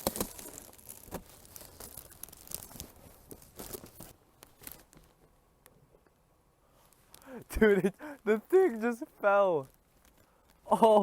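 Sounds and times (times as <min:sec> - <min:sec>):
wrapping crinkling and rustling: 0:00.0 - 0:05.2, 0:06.8 - 0:11.0.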